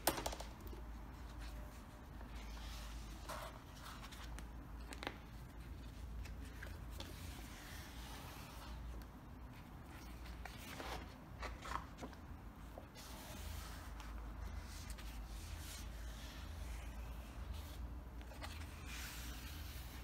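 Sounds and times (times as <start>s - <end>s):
thick pages rustling: 1.1s - 20.0s.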